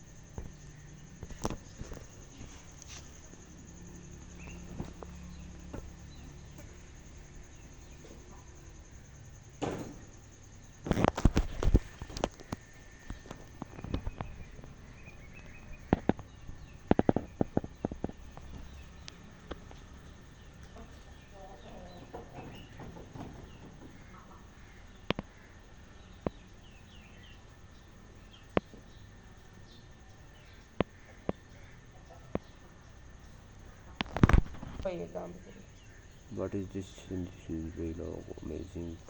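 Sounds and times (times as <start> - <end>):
faint bird chirps: 0.0 - 39.0.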